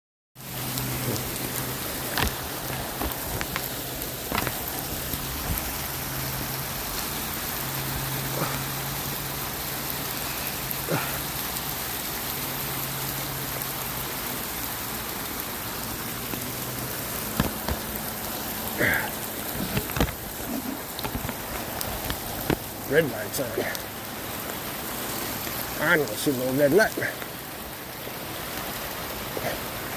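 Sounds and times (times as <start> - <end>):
raindrops striking nearby: 0.4 - 29.9
steady rain: 0.4 - 29.9.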